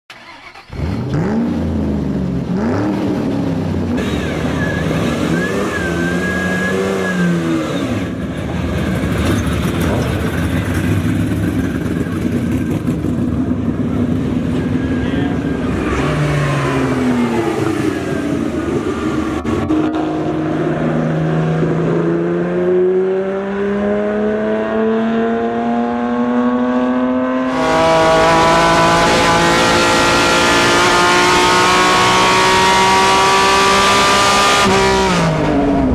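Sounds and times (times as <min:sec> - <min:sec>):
race car engines revving: 0:00.1 - 0:35.9.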